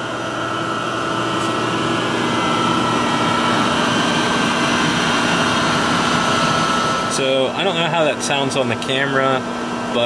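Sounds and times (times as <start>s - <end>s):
electric motor humming with high whine: 0.0s - 10.0s.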